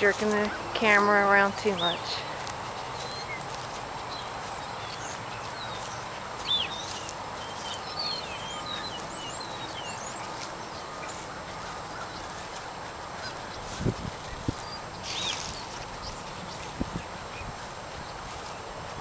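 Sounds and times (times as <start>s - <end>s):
background hiss: 0.0s - 19.0s
birds chirping: 0.0s - 19.0s.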